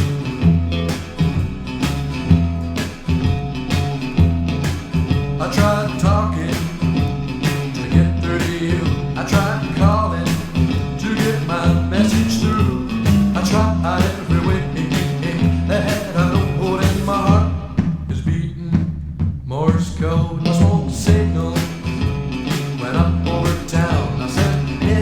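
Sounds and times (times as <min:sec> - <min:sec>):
electric guitar phrases: 0:00.0 - 0:17.9, 0:19.9 - 0:25.0
bass line: 0:00.0 - 0:25.0
steady drum beat: 0:00.0 - 0:25.0.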